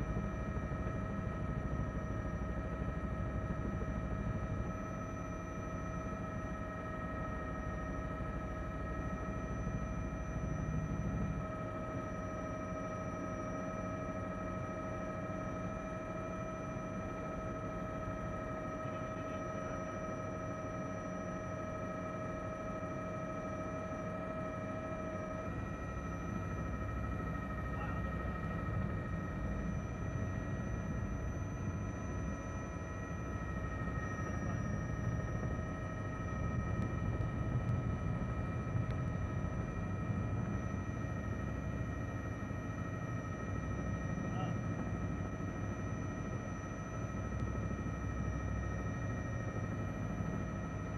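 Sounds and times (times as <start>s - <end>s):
constant whining tones: 0.0s - 50.9s
helicopter engine and rotor drone: 0.0s - 50.9s.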